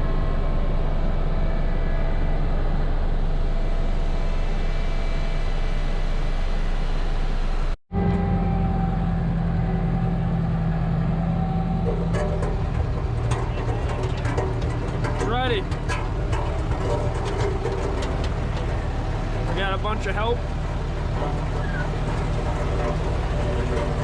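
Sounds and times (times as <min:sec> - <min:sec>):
diesel farm machinery running: 0:00.0 - 0:24.0
engine low hum: 0:00.0 - 0:24.0.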